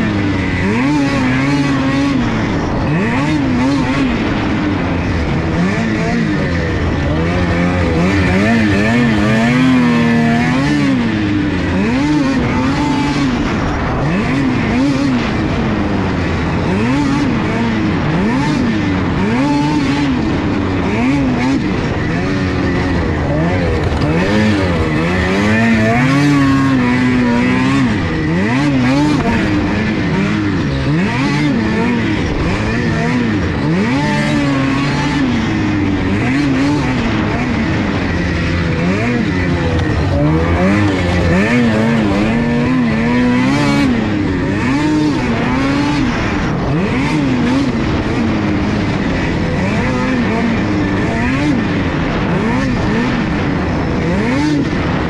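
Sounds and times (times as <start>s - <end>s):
snowmobile engine revving: 0.0s - 55.0s
steady rush of noise: 0.0s - 55.0s.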